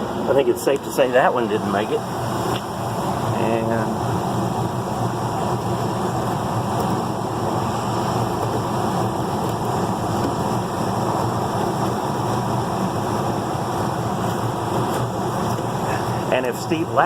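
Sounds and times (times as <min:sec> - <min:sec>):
furnace fan rushing air: 0:00.0 - 0:17.0.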